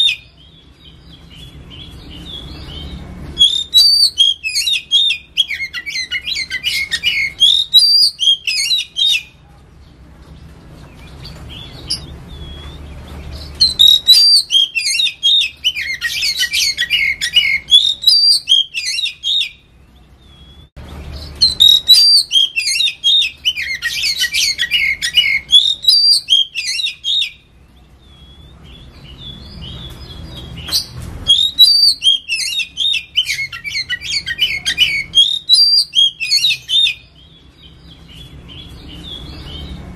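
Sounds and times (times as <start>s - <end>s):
bird singing whistles and chatter: 0.0s - 9.4s, 10.9s - 39.9s.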